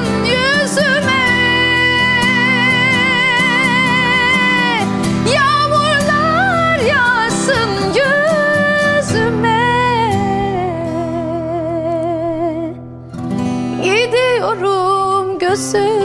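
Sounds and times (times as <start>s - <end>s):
instrumental ballad melody: 0.0s - 16.0s.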